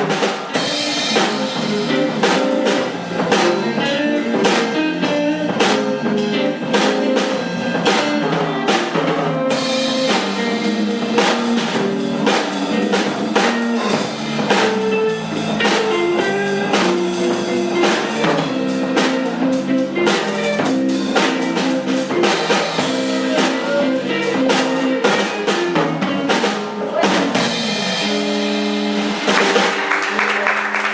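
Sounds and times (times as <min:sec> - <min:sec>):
drum kit with rimshots: 0:00.0 - 0:30.9
electric guitar: 0:00.0 - 0:30.9.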